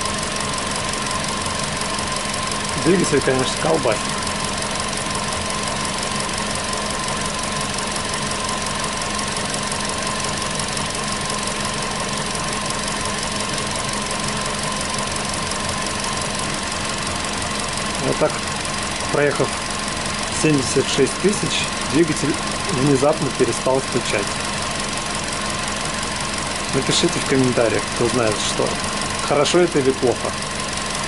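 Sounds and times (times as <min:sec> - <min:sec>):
car engine idling: 0:00.0 - 0:31.0
steady whine: 0:00.0 - 0:31.0.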